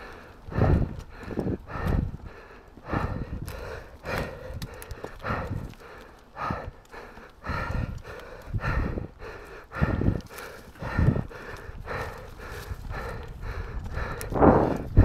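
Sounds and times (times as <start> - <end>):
mountain bike rolling on dirt: 0.0 - 15.0
wind noise: 0.0 - 15.0.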